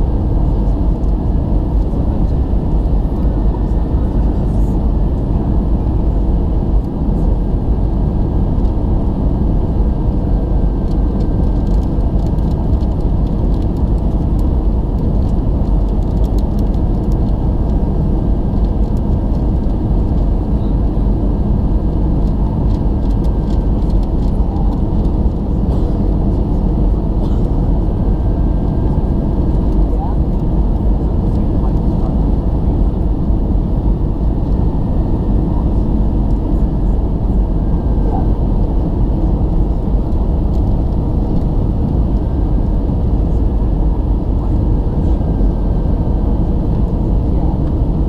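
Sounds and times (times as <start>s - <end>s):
jet engine and airflow noise: 0.0s - 48.0s.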